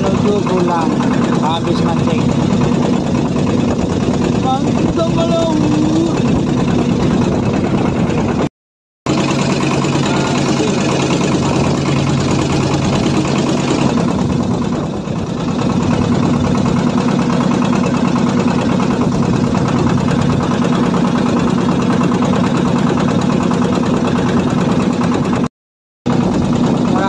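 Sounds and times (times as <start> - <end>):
boat engine running: 0.0 - 25.5, 26.1 - 27.0.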